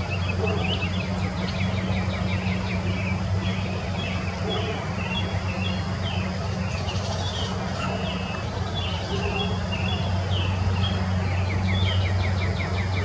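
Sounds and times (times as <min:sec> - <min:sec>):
small birds chirping: 0:00.0 - 0:13.0
steady low drone: 0:00.0 - 0:13.0.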